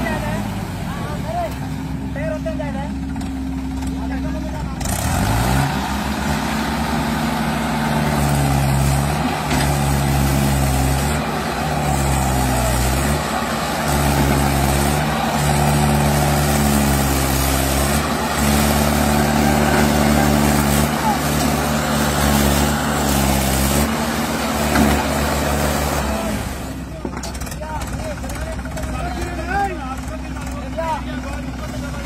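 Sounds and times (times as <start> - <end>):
tractor diesel engine labouring: 0.0 - 32.0.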